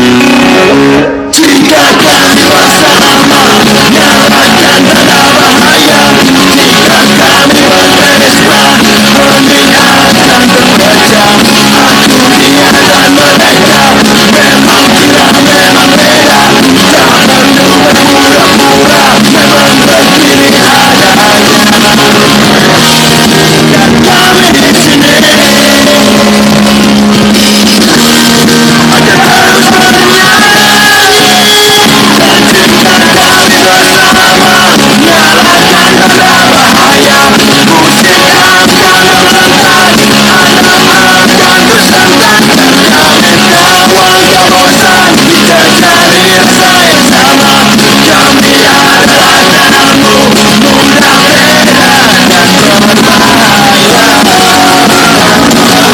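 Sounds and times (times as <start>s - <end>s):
rock song with sung vocal: 0.0s - 55.9s.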